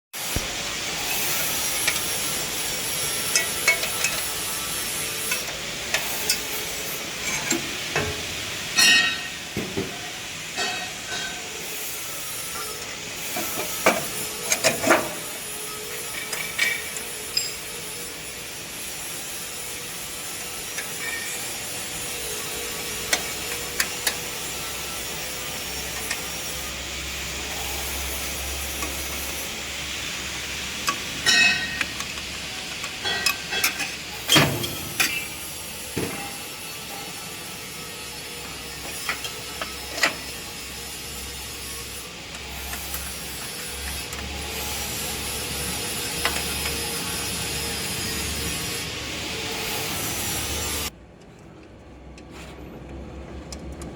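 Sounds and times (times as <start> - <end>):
steady workshop hiss: 0.2 - 51.0.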